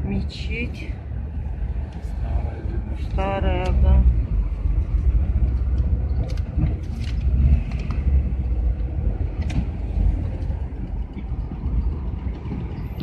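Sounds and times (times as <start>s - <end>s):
van engine and tyres rumbling: 0.0s - 13.0s.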